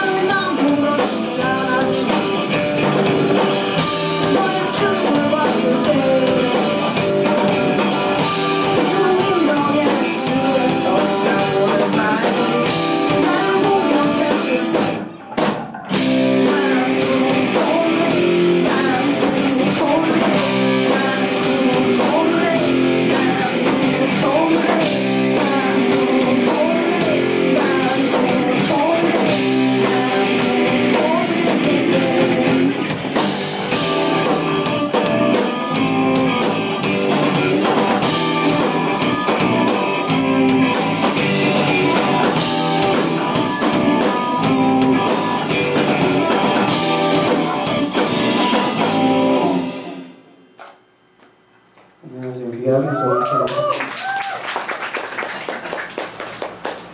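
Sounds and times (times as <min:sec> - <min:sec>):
person singing: 0:00.0 - 0:15.1, 0:15.9 - 0:32.9, 0:33.6 - 0:48.6
electric bass: 0:00.0 - 0:50.0
electric guitars: 0:00.0 - 0:50.8
drum kit: 0:00.0 - 0:52.0.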